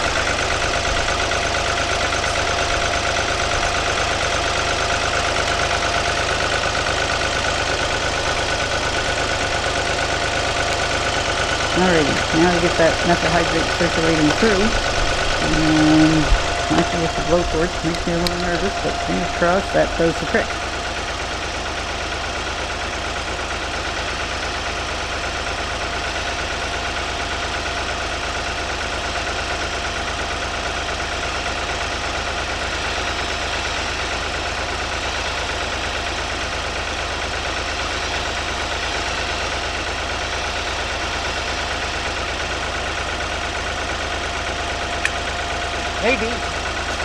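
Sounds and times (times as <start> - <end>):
tractor engine idling: 0.0 - 47.0.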